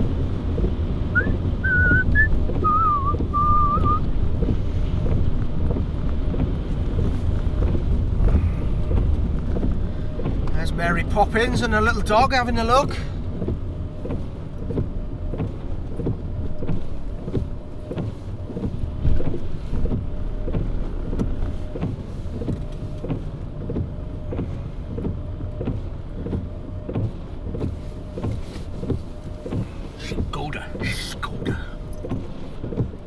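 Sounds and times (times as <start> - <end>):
constant whine: 0.0 - 32.7
car engine and road rumble: 0.0 - 33.0.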